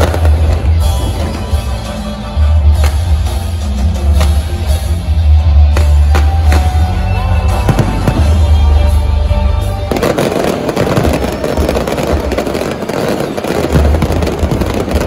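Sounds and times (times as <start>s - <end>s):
music with heavy bass and drums: 0.0s - 15.0s.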